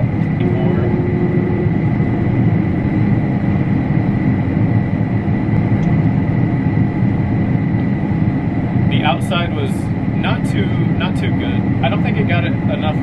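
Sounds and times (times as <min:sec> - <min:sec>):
combine harvester rumbling: 0:00.0 - 0:13.0
high machinery whine: 0:00.0 - 0:13.0.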